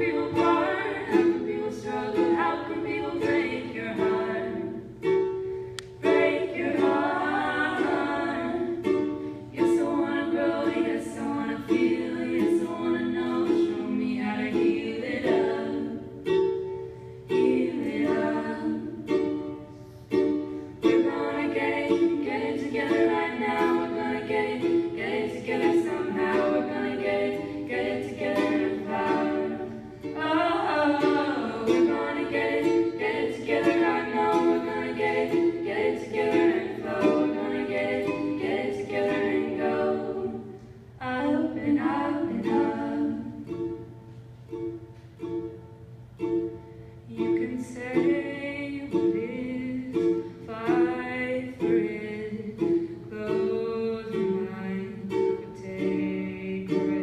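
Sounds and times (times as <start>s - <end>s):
women singing in harmony: 0.0s - 5.1s, 5.7s - 44.0s, 47.0s - 57.0s
strummed ukulele: 0.0s - 57.0s.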